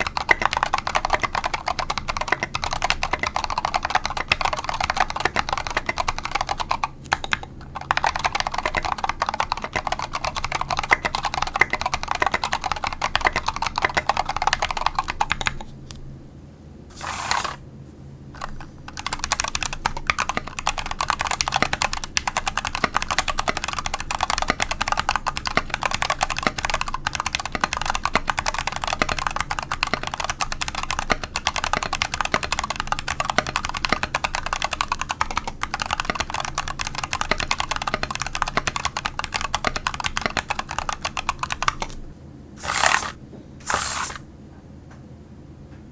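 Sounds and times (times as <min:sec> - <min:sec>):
fast typing on mechanical keyboard: 0:00.0 - 0:15.7, 0:18.4 - 0:42.0, 0:42.6 - 0:44.2.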